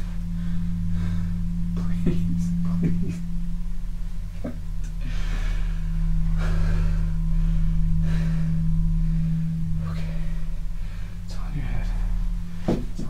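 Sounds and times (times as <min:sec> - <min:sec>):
low humming tone: 0:00.0 - 0:13.0
soft swells of hiss: 0:00.0 - 0:13.0.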